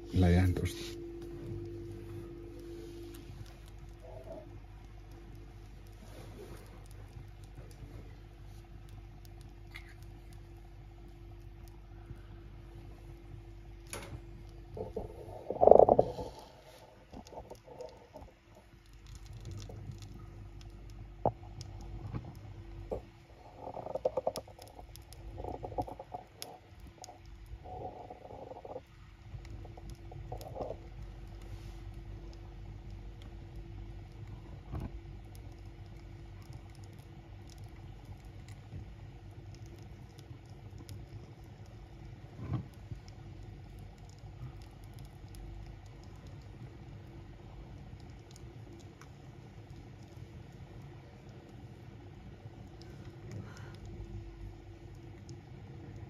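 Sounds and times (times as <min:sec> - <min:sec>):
fire crackling: 0:00.0 - 0:56.0
low rumble of flame: 0:00.0 - 0:56.0.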